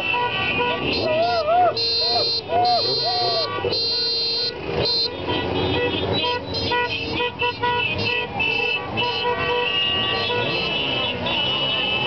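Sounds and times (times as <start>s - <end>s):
crowd and traffic din: 0.0s - 12.0s
horns honking: 0.0s - 12.0s.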